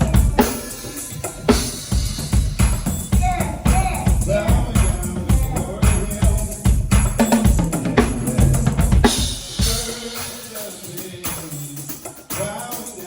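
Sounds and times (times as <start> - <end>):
cymbal crash: 0.0 - 13.0
drum kit rapid hits: 0.0 - 13.0.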